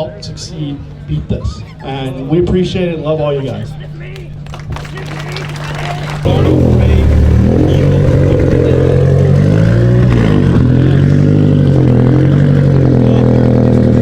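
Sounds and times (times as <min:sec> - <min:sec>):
car engine running: 0:02.5 - 0:14.0.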